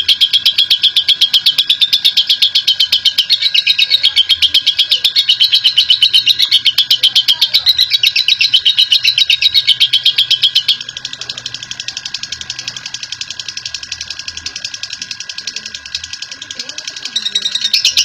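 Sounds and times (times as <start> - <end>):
lovebird chattering trill: 0.0 - 18.0.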